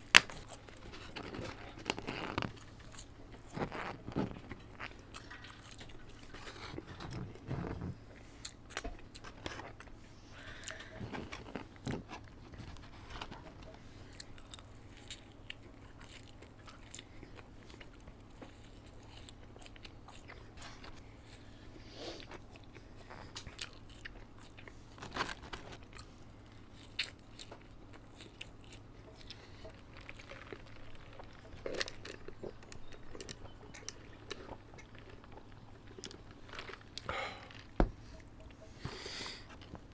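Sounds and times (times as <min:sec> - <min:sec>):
chewing and crunching food: 0:00.0 - 0:39.9
faint low hum: 0:00.0 - 0:39.9.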